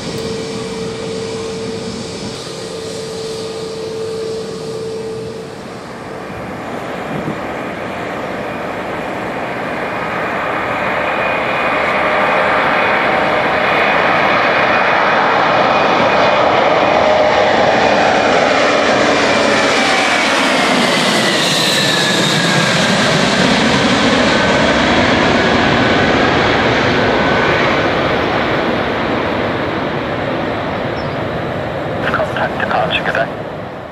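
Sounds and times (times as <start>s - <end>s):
jet airliner engine whine: 0.0s - 33.9s.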